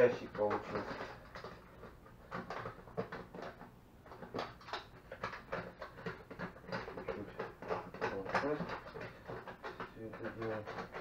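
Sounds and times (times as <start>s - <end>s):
plastic box being handled: 0.0s - 11.0s.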